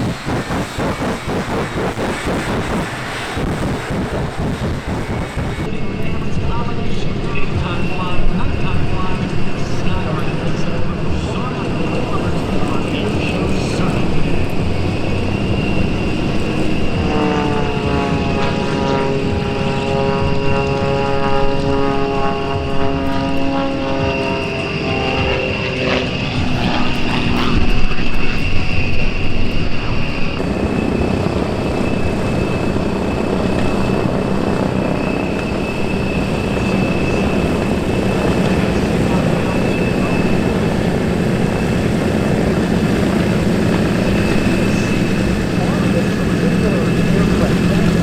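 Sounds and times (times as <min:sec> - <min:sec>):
propeller plane flying past: 0:00.0 - 0:48.0.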